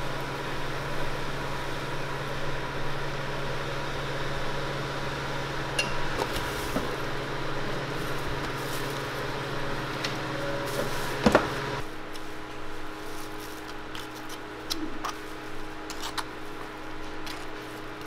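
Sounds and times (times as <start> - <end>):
kitchen equipment humming: 0.0 - 18.0.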